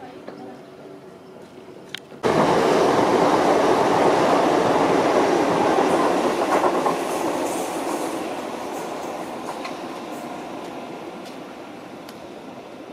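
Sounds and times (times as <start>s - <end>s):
train wheels rumbling on rail: 1.4s - 12.9s.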